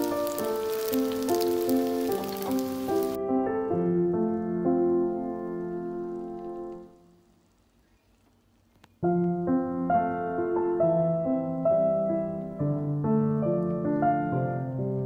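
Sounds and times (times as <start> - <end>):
background piano music: 0.0 - 7.4, 9.0 - 15.0.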